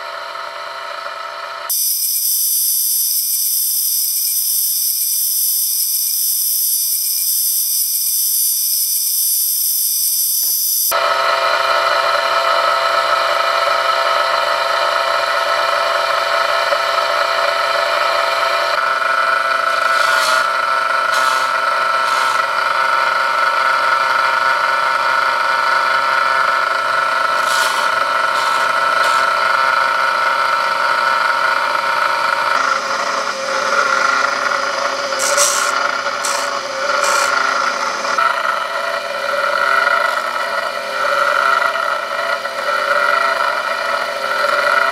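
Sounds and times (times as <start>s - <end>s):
high-pitched grinder whine: 0.0s - 44.9s
steady motor hum: 0.0s - 44.9s
grinding wheel rasping on chain: 1.7s - 10.9s, 18.1s - 44.9s.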